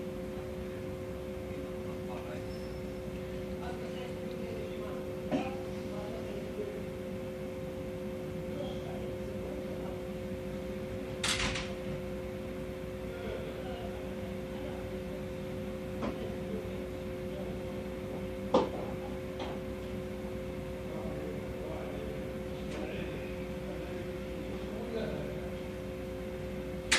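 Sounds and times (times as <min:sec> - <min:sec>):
mechanical hum: 0:00.0 - 0:26.9.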